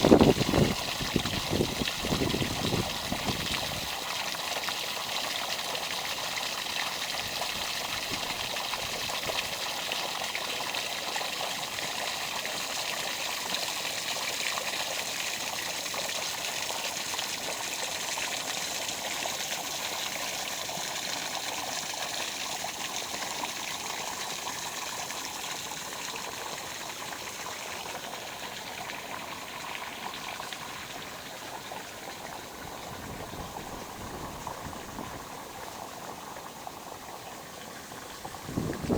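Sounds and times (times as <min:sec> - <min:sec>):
water rushing and trickling: 0:00.0 - 0:38.9.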